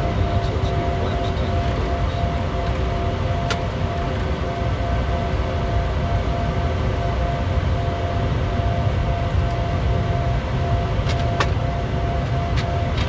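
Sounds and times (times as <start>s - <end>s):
jet airflow and engine rumble: 0.0s - 13.0s
steady hums: 0.0s - 13.0s.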